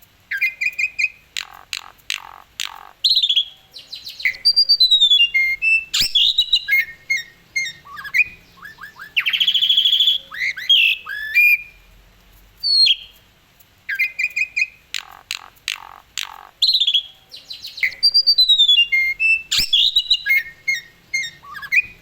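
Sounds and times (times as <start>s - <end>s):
starling singing: 0.3s - 11.8s, 13.9s - 22.0s.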